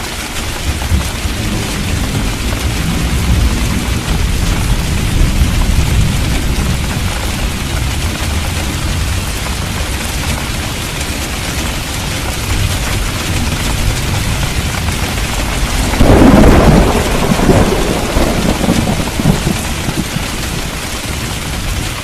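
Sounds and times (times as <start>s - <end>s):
steady rain: 0.0s - 22.0s
thunder rumbling: 0.4s - 22.0s.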